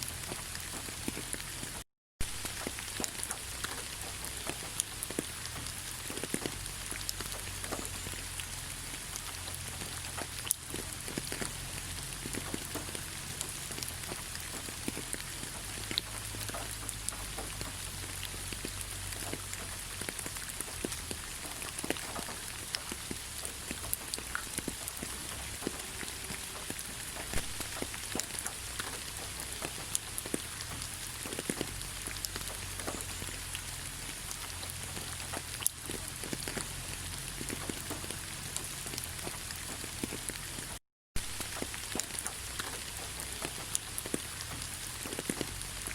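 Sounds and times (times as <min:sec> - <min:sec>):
rain on hard surfaces: 0:00.0 - 0:45.9.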